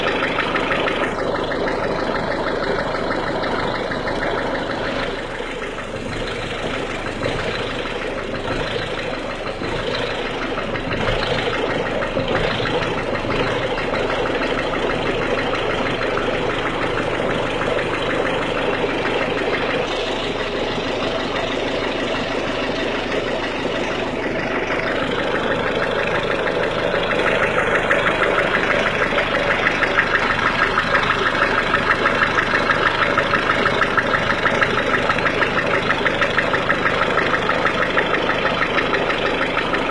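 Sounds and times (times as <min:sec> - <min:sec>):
diesel engine idling clatter: 0:00.0 - 0:39.9.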